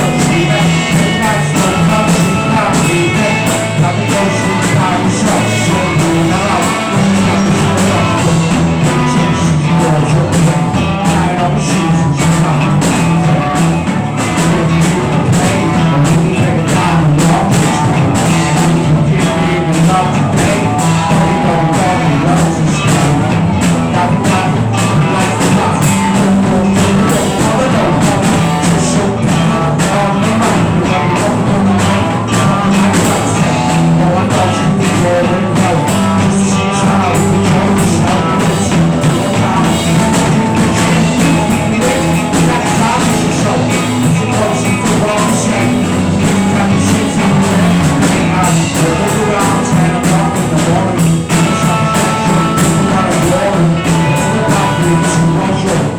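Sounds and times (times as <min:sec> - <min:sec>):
drum kit fast beat: 0:00.0 - 0:55.9
rock band playing: 0:00.0 - 0:55.9.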